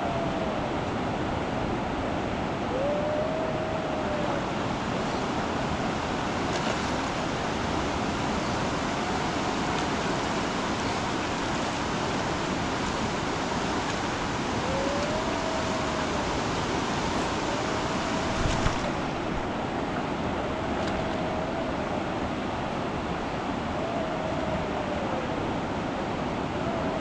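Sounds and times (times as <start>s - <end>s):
rushing storm water: 0.0s - 27.0s
wind: 0.0s - 27.0s.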